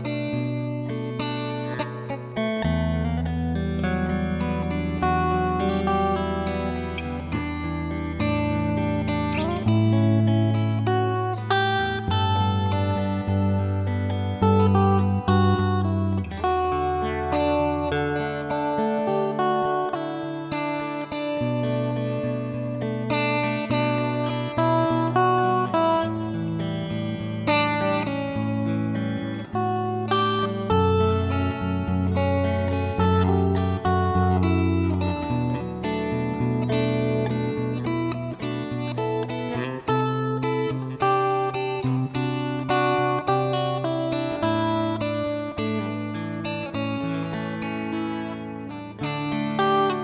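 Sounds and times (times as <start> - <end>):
guitar playing plucked melody: 0.0 - 50.0.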